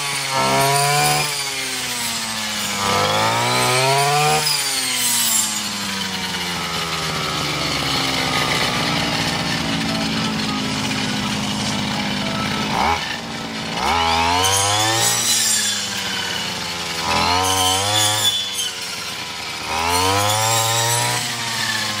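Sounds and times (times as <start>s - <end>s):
blade cutting grass stalks: 0.0s - 22.0s
brush cutter engine revving: 0.0s - 22.0s.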